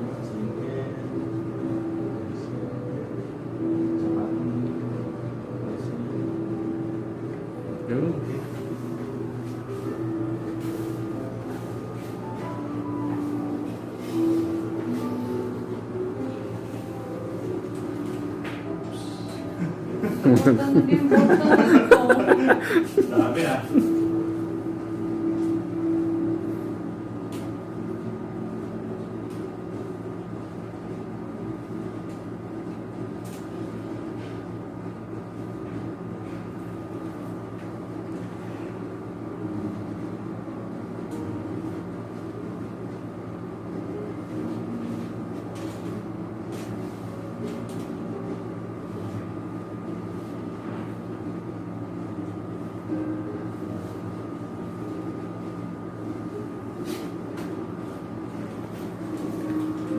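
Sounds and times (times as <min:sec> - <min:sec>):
machine hum: 0:00.0 - 0:59.9
thin high whine: 0:00.0 - 0:59.9.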